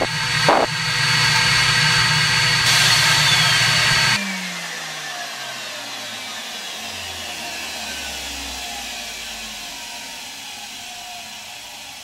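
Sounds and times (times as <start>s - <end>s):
motor spinning down: 0.0s - 12.0s
vacuum motor whine and air rush: 0.0s - 12.0s.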